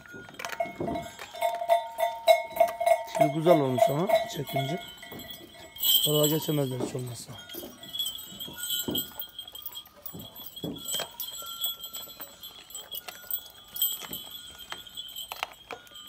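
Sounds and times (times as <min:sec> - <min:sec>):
livestock bells tinkling: 0:00.0 - 0:16.0.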